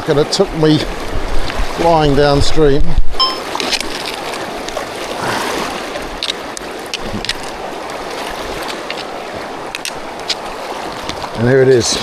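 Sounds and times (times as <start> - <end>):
river water rushing: 0.0 - 2.6, 3.2 - 12.0.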